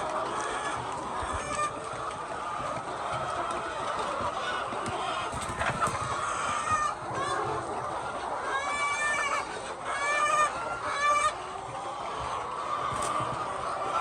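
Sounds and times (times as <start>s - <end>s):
chickens clucking: 0.0s - 14.0s
drawn-out chicken calls: 0.0s - 14.0s.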